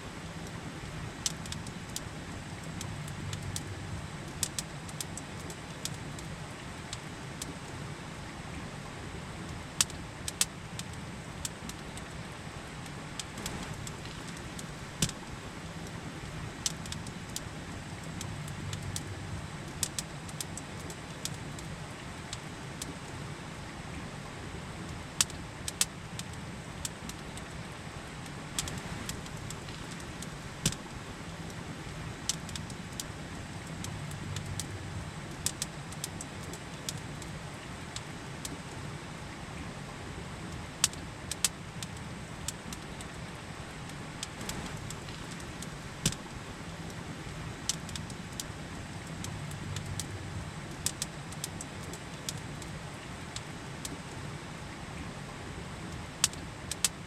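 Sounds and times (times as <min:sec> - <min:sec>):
campfire crackling and popping: 0:00.1 - 0:07.8, 0:09.2 - 0:23.2, 0:24.8 - 0:38.8, 0:40.4 - 0:54.3, 0:55.9 - 0:57.0.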